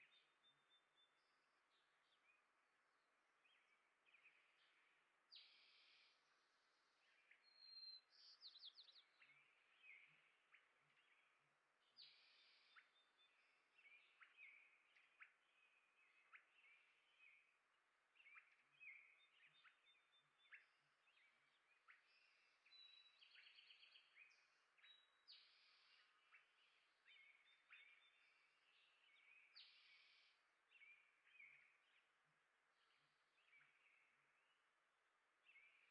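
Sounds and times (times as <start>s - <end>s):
small birds chirping and trilling: 0.0s - 35.9s.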